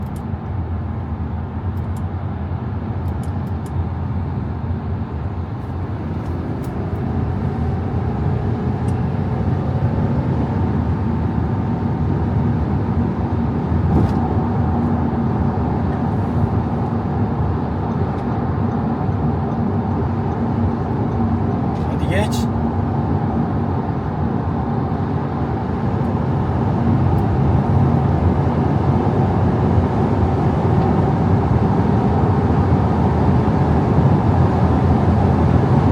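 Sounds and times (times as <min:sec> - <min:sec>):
road and tyre noise: 0:00.0 - 0:35.9
diesel engine running: 0:03.8 - 0:35.9.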